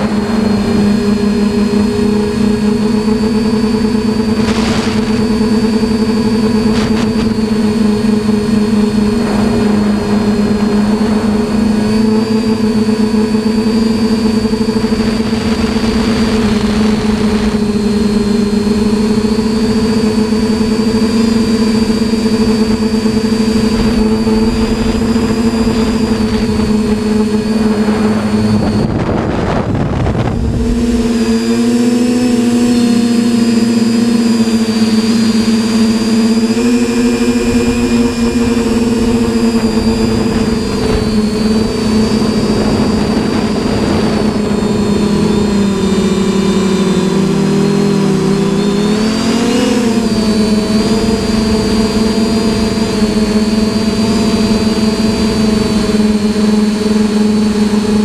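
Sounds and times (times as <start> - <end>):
wind noise rush: 0.0 - 34.2, 35.0 - 57.9
drone motors humming: 0.0 - 58.0.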